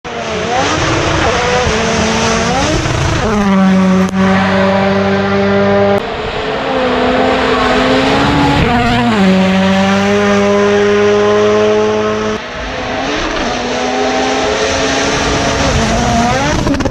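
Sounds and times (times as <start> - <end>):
rally car engine at high revs: 0.1 - 16.9.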